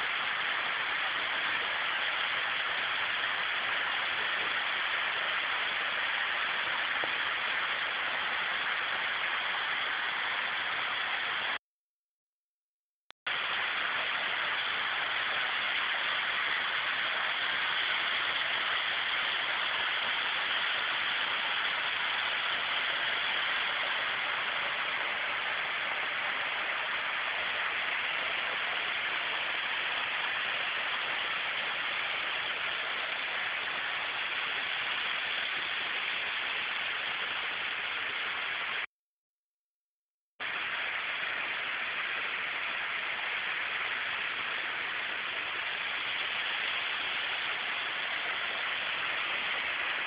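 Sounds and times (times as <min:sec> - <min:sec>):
waterfall rushing: 0:00.0 - 0:11.6, 0:13.3 - 0:38.8, 0:40.4 - 0:50.0.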